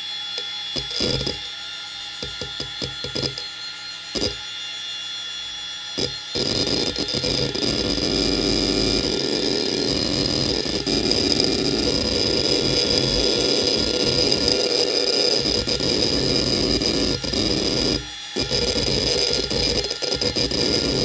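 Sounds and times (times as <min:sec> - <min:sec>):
hard drive spindle whine: 0:00.0 - 0:21.0
rapid hard drive chatter: 0:00.6 - 0:01.5, 0:02.2 - 0:03.5, 0:04.1 - 0:04.4, 0:06.0 - 0:21.0.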